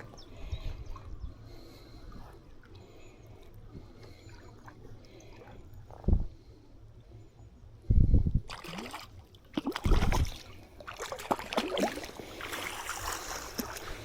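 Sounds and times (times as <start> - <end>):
water splashing and sloshing: 0.0 - 7.0, 8.3 - 14.0.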